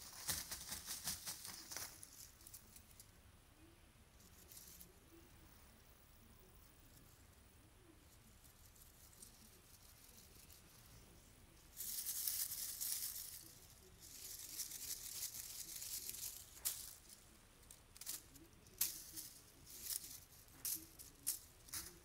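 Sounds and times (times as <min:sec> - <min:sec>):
ribbon cat toy rustling: 0:00.0 - 0:03.1, 0:04.2 - 0:05.1, 0:08.2 - 0:22.0.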